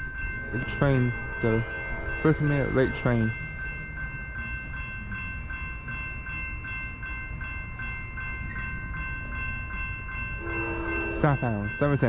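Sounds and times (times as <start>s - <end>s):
low rumble from rail line: 0.0s - 12.0s
railroad crossing bell ringing: 0.0s - 12.0s.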